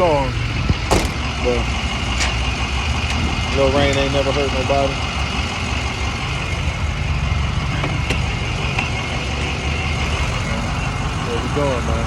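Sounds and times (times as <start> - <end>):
truck engine humming: 0.0 - 12.0.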